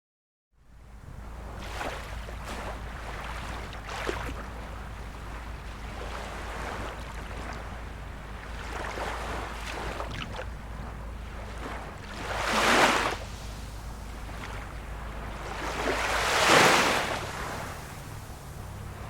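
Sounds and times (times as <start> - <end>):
wind buffeting microphone: 0.7 - 19.0.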